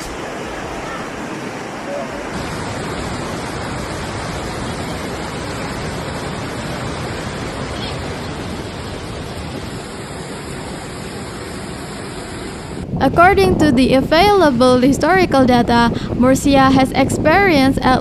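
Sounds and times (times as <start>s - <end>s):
floodwater rushing: 0.0s - 17.6s.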